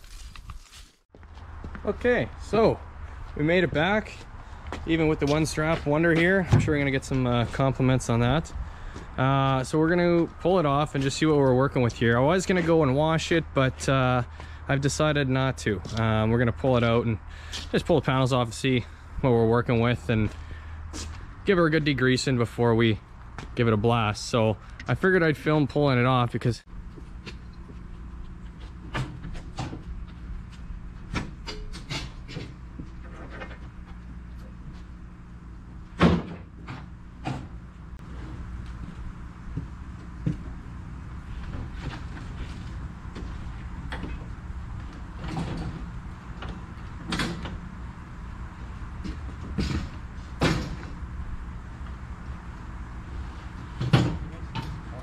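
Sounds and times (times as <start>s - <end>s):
steady low hum: 1.2s - 55.0s.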